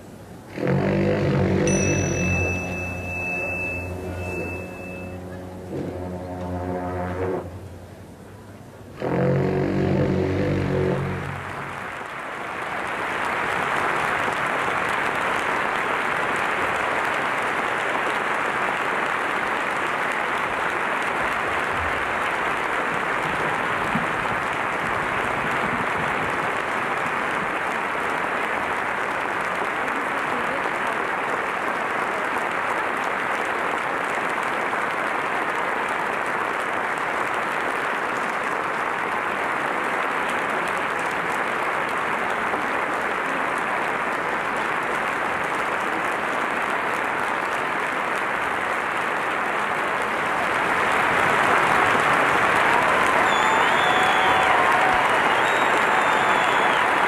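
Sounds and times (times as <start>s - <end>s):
large audience applauding: 0.6s - 7.2s, 9.0s - 57.0s.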